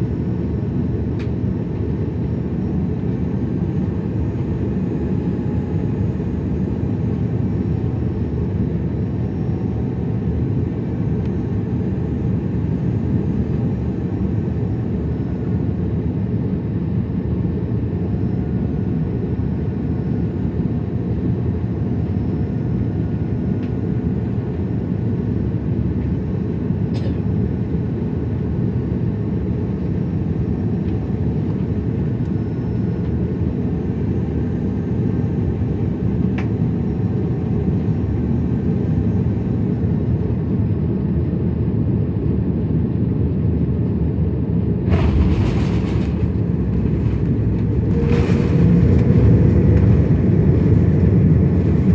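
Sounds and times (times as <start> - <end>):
airliner cabin engine rumble: 0.0 - 51.9.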